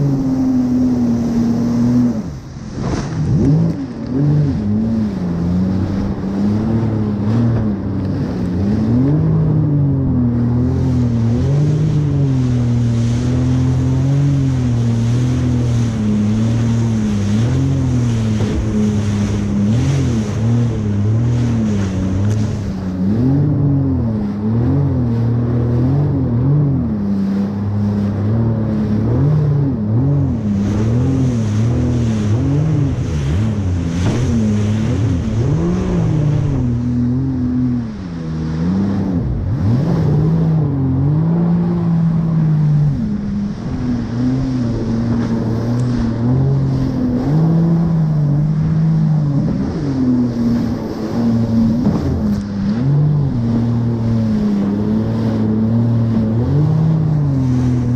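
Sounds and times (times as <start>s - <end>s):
water rushing and splashing: 0.0s - 57.9s
watercraft engine revving: 0.0s - 57.9s.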